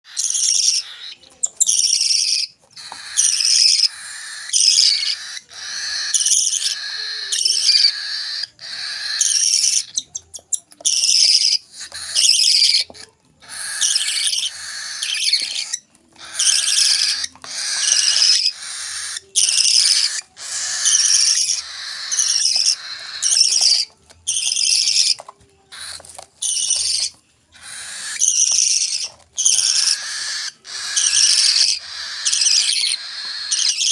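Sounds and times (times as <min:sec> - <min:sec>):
parrot chicks begging calls: 0:00.1 - 0:33.9.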